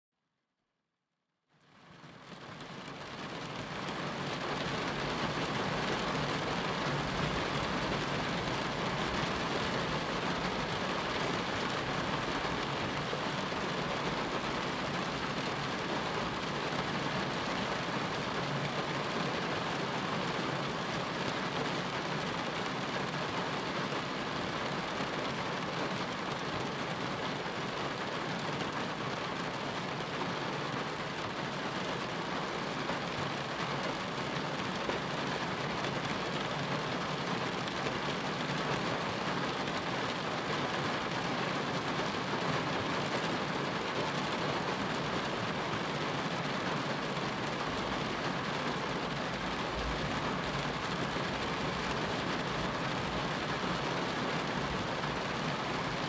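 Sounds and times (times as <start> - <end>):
dense rain: 1.6 - 56.0.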